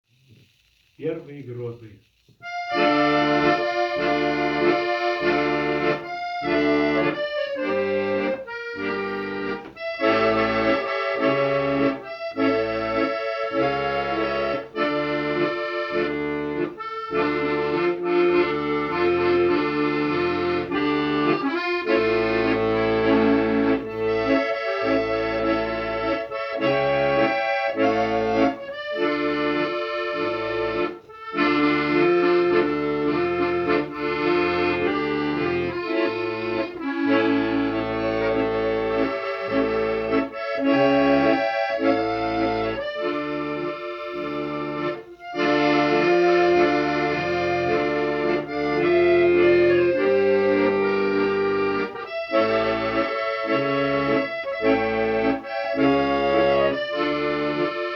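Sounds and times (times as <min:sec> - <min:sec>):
accordion music: 0:00.2 - 0:57.9.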